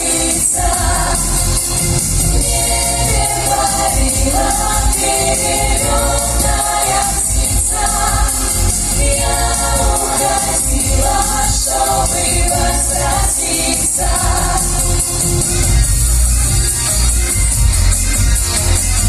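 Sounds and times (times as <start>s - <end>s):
vocal ensemble singing in harmony: 0.0s - 16.1s
backing music with strong bass: 0.0s - 19.0s.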